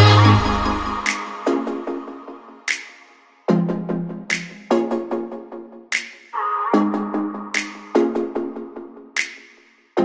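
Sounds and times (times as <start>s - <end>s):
electronic music with synth notes: 0.0s - 10.0s.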